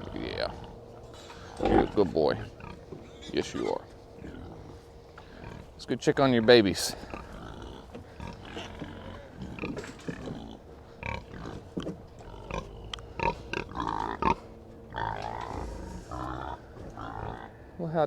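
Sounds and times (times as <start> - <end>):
pigs grunting: 0.0 - 18.0.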